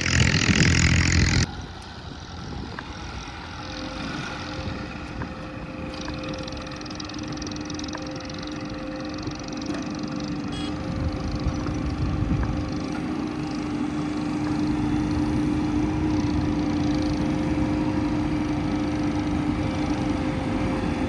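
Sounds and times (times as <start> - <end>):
diesel machine engine running: 0.0 - 21.0.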